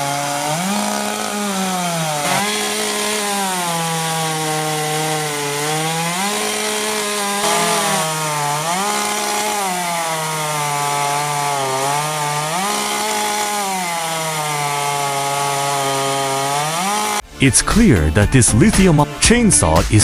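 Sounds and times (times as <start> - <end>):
chainsaw cutting log: 0.0 - 17.3.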